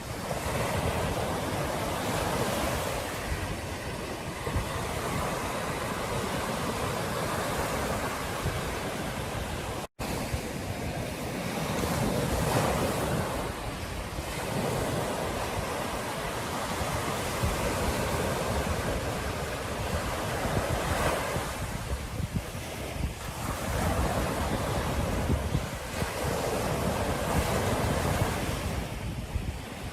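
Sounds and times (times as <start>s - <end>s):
ocean surf breaking on beach: 0.0s - 29.9s
wind buffeting microphone: 0.0s - 29.9s.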